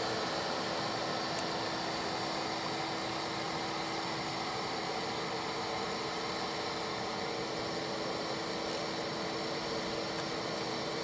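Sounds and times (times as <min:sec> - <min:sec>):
shop vacuum motor running: 0:00.0 - 0:11.0.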